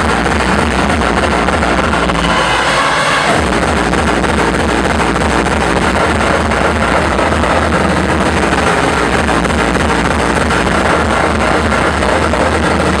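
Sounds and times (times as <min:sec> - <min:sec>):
electronic dance music: 0:00.0 - 0:13.0.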